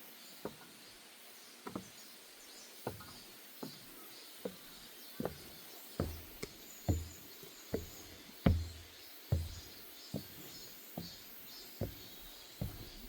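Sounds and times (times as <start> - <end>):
footsteps on wooden deck: 0.4 - 0.8, 1.6 - 2.0, 2.6 - 13.0.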